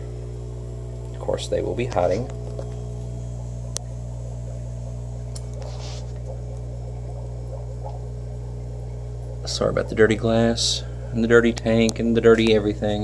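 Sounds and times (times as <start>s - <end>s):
aquarium equipment hum: 0.0s - 13.0s.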